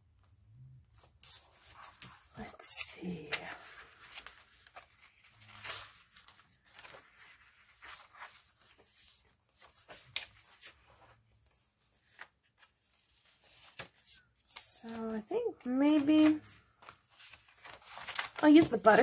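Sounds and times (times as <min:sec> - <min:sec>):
paper pages rustling: 0:01.0 - 0:19.0.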